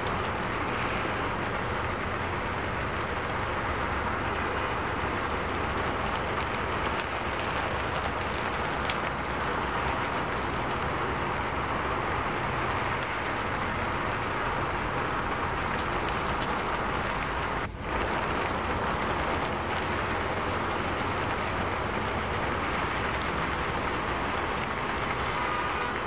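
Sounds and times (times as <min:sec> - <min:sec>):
heavy rain: 0:00.0 - 0:26.0
traffic on wet streets: 0:00.0 - 0:26.0.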